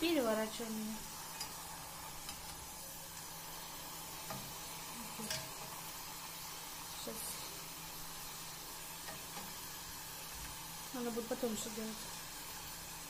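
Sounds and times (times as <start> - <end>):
dough deep-frying in oil: 0.0 - 13.0.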